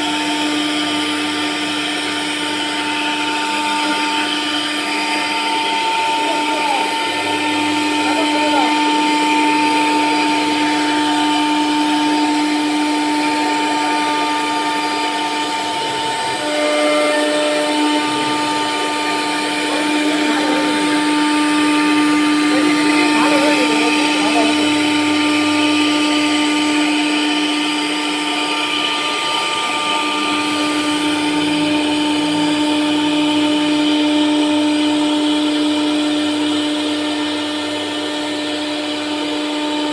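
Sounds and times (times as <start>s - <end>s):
router motor whine: 0.0s - 39.9s
rushing noise of wood cutting: 0.0s - 39.9s.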